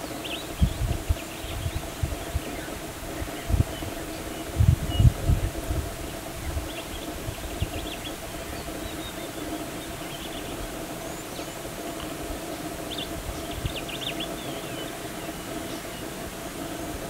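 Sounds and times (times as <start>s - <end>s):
small birds chirping: 0.0s - 5.7s, 6.3s - 16.9s
steady low hum: 0.0s - 17.0s.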